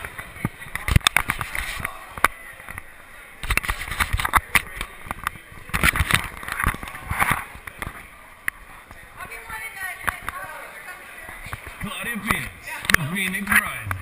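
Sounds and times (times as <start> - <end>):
noisy crowd background: 0.0 - 14.0.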